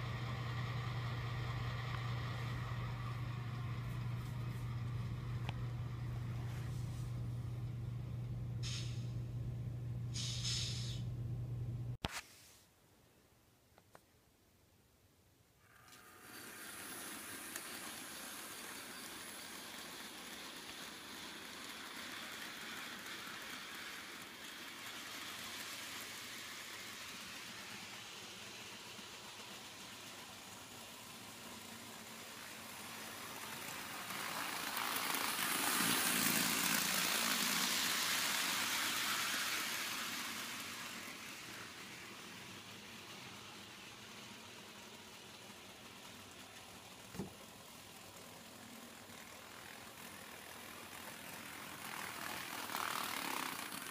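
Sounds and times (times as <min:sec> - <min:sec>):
model train motor whirring: 0:00.0 - 0:06.8, 0:08.6 - 0:09.0, 0:10.1 - 0:11.0, 0:15.6 - 0:53.9
wheels rumbling on track: 0:00.0 - 0:10.9, 0:16.5 - 0:53.9.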